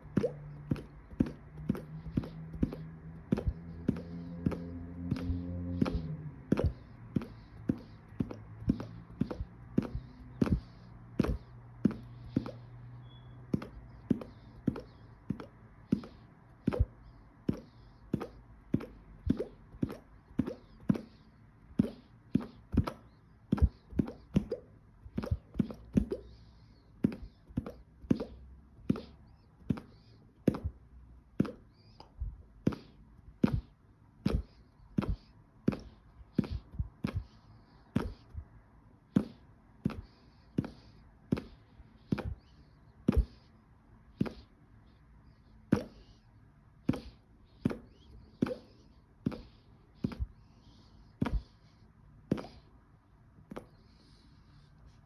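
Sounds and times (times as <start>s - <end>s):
finger flicking puffed cheeks: 0.0s - 44.6s, 45.6s - 51.7s, 52.3s - 52.8s, 53.4s - 55.0s.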